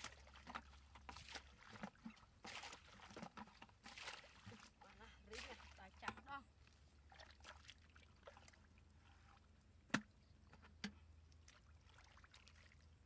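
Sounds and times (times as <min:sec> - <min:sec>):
bare feet wading through mud: 0:00.0 - 0:09.6, 0:11.1 - 0:13.0.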